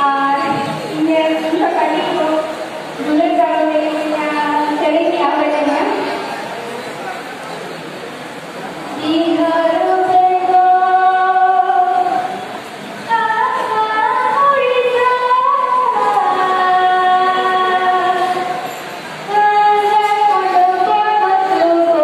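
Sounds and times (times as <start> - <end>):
woman singing unaccompanied: 0.0 - 6.1, 9.0 - 12.4, 13.1 - 18.7, 19.3 - 22.0.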